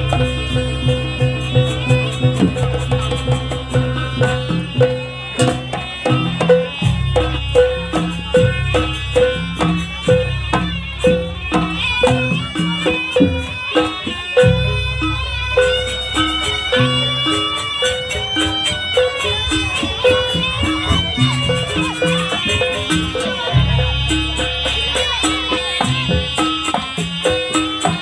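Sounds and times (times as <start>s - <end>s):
hand-drum strokes: 0.0s - 28.0s
reedy shawm melody: 0.0s - 28.0s.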